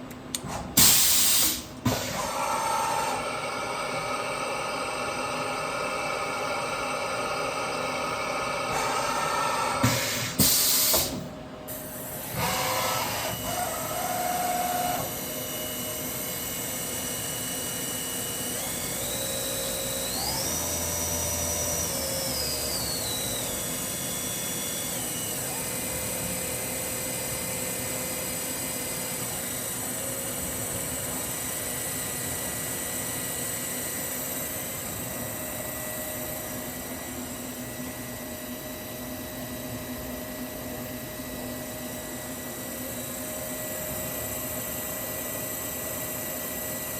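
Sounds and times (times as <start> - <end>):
milling machine hum and whine: 0.0 - 46.9.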